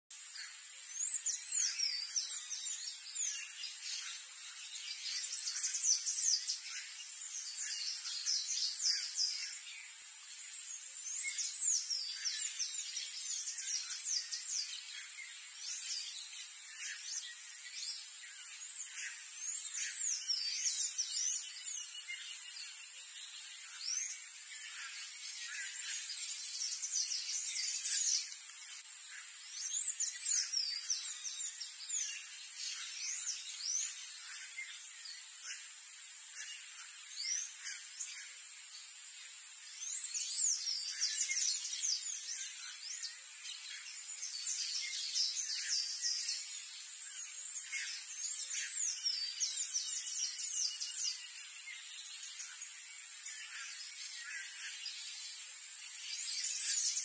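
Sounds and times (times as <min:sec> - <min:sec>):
steady high-pitched hiss: 0:00.1 - 0:57.0.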